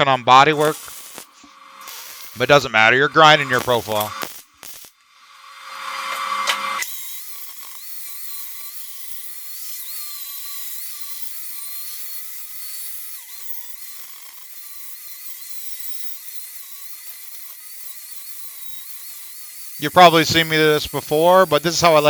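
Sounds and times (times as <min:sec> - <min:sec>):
grinder grinding steel welds: 0:00.0 - 0:22.0.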